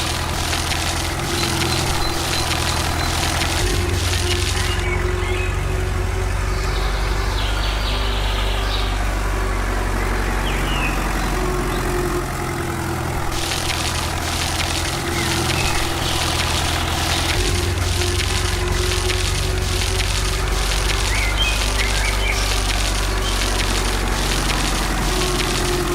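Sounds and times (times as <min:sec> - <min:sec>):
vehicle engine idling: 0:00.0 - 0:25.9.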